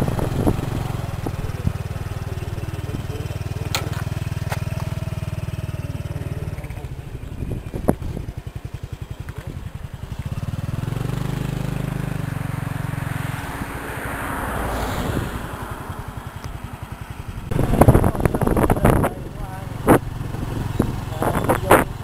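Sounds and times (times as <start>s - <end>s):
motorbike engine running: 0.0s - 13.9s, 14.7s - 22.0s.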